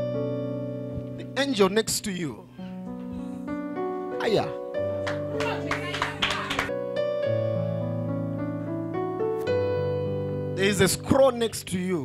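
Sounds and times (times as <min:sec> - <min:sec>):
keyboard sustained chords: 0:00.0 - 0:12.0.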